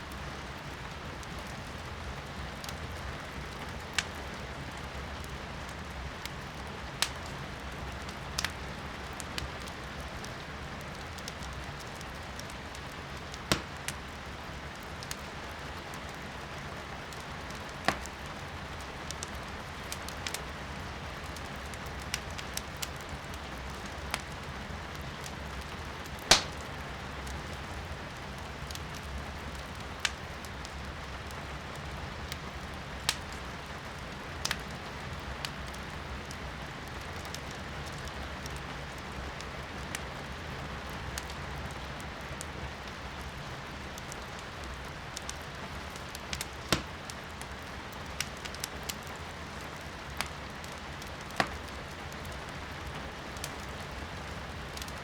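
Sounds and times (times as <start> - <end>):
firewood crackling and popping: 0.1 - 55.0.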